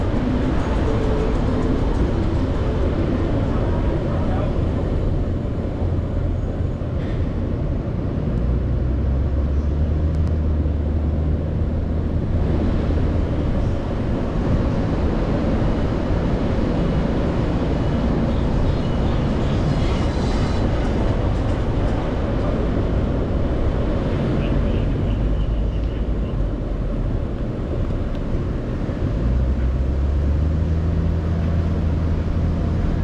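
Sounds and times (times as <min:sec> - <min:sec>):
car driving slowly: 0:00.0 - 0:33.0.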